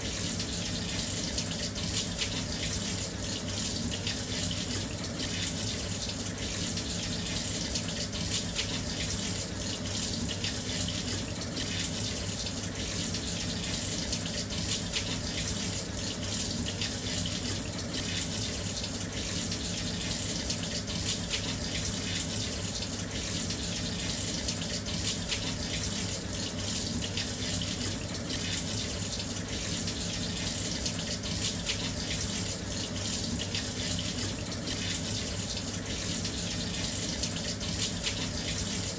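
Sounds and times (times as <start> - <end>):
washing machine filling with water: 0.0 - 38.9.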